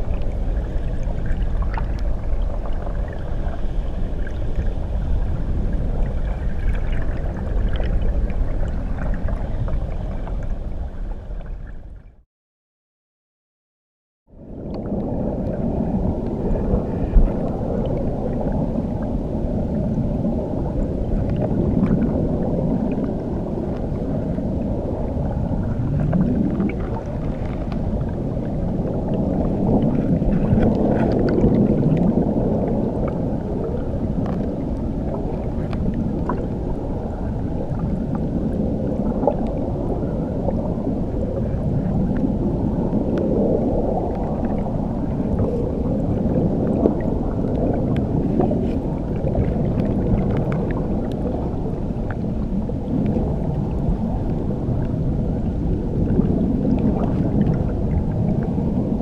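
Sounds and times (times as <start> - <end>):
gurgling swirls: 0.0 - 11.7, 14.4 - 59.0
muffled underwater churning water: 0.0 - 12.2, 14.3 - 59.0.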